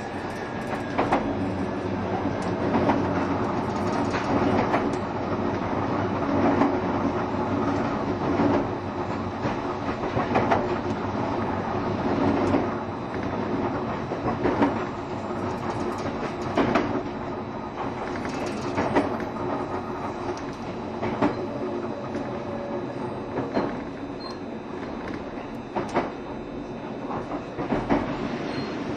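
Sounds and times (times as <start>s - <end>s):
train rumble and hum: 0.0s - 28.9s.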